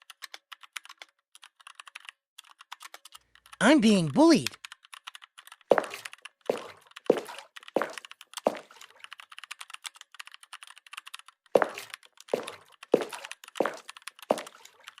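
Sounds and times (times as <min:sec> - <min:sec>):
small dry clicks: 0:00.0 - 0:03.6, 0:04.6 - 0:15.0.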